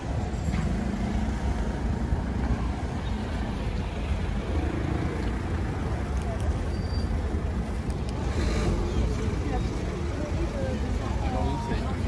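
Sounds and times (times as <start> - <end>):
slow traffic rumble: 0.0 - 12.0.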